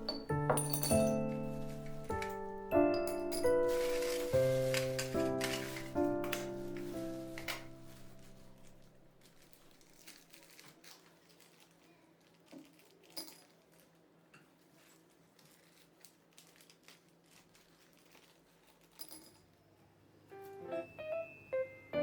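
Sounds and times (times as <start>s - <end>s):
faint crinkling: 1.0s - 19.7s.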